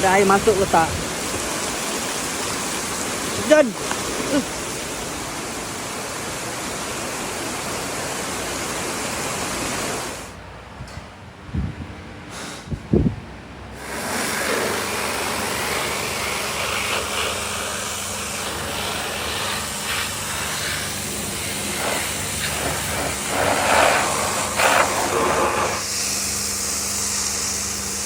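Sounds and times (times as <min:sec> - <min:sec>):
water hissing on car body: 0:00.0 - 0:10.4, 0:13.8 - 0:28.0.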